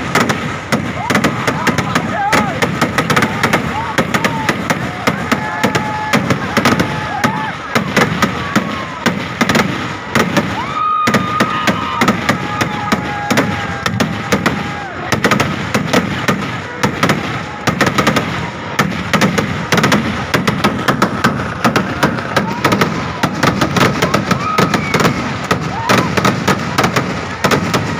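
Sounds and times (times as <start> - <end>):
fireworks cracking and banging: 0.0 - 27.9.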